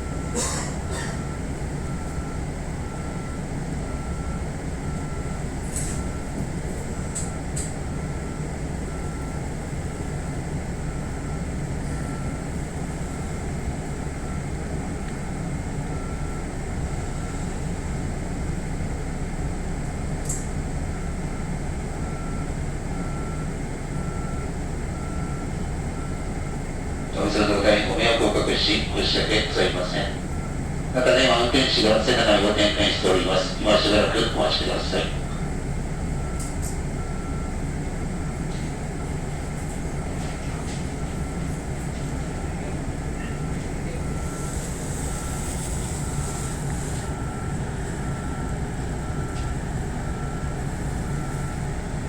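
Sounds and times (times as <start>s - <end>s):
train car hum and rumble: 0.0s - 52.0s.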